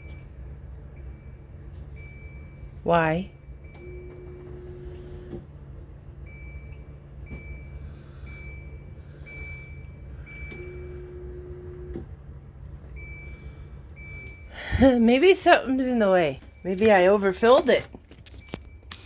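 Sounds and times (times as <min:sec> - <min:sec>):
lower hum with clicks: 0:00.0 - 0:19.0
steady low hum: 0:00.0 - 0:19.0
dishwasher beeping: 0:01.0 - 0:05.4, 0:06.2 - 0:12.2, 0:12.9 - 0:19.0.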